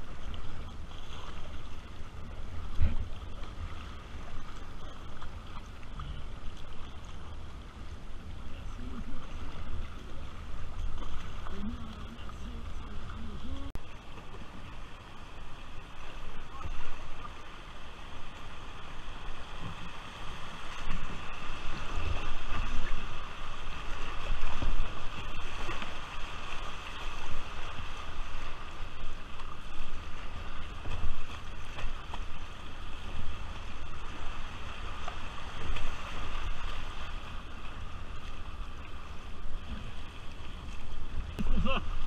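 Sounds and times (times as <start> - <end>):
paddle strokes splashing: 0.0 - 42.0
river water rushing: 0.0 - 42.0.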